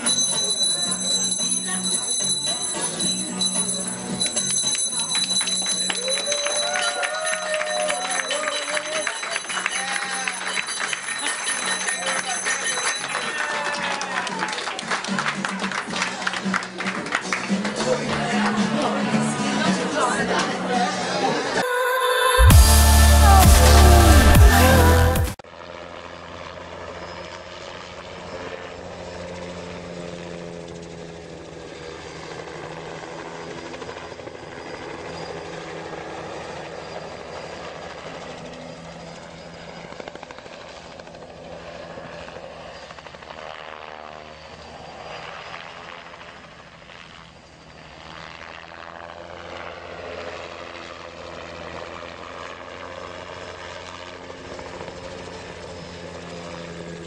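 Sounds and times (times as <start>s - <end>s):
helicopter rotor and engine drone: 0.0s - 23.2s, 24.8s - 57.0s.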